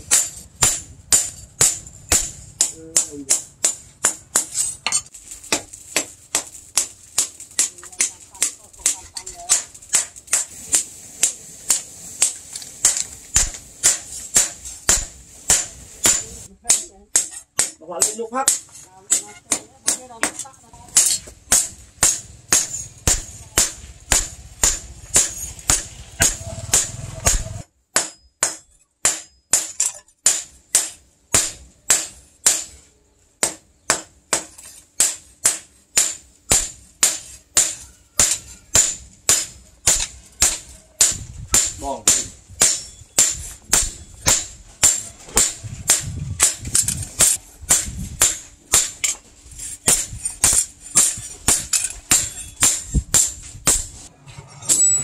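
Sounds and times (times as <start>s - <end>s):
hammer striking metal on anvil: 0.0s - 32.8s, 33.4s - 49.2s, 49.9s - 53.9s.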